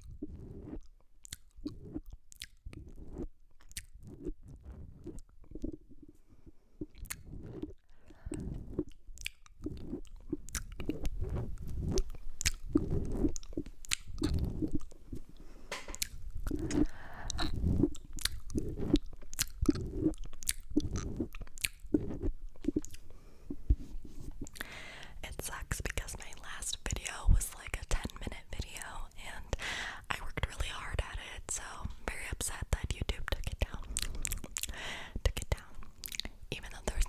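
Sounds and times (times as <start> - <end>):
wet mouth licking and smacking: 0.0 - 37.0.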